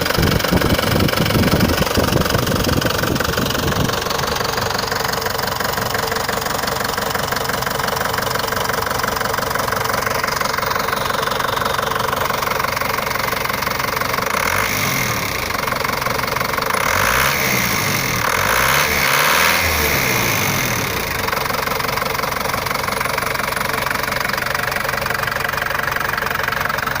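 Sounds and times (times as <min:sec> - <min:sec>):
diesel engine idling and revving: 0:00.0 - 0:27.0.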